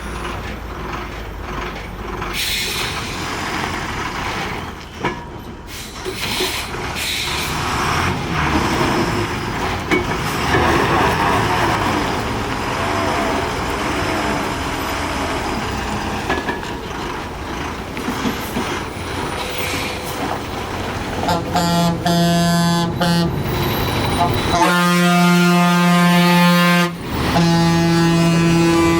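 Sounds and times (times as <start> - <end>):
heavy truck engine running: 0.0 - 28.9
road noise: 0.0 - 28.9.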